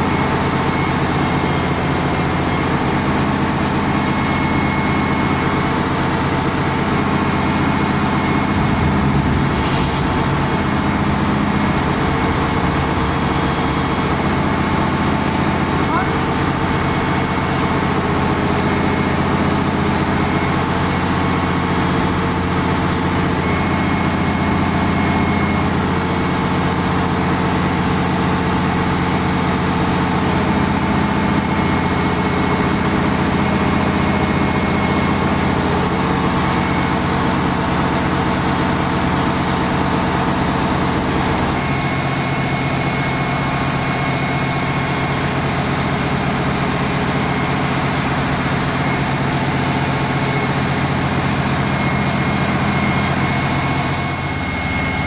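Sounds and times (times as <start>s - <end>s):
crane diesel engine running: 0.0s - 55.0s.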